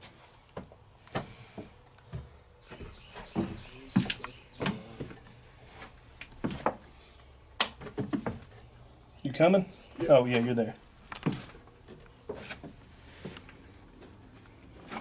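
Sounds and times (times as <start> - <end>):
footsteps going down stairs: 0.0 - 7.0, 7.6 - 8.6, 9.9 - 15.0.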